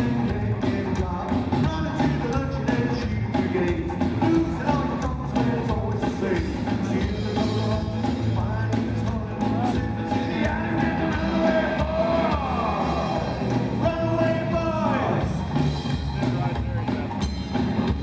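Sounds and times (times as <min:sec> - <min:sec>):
man singing: 0:00.0 - 0:15.4
drum kit: 0:00.0 - 0:18.0
electric guitar: 0:00.0 - 0:18.0
upright bass: 0:00.0 - 0:18.0.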